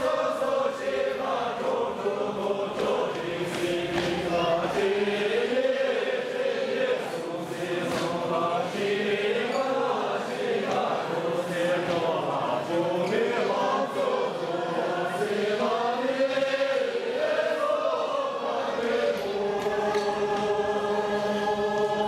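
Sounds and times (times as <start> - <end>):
women singing in unison: 0.0 - 22.0.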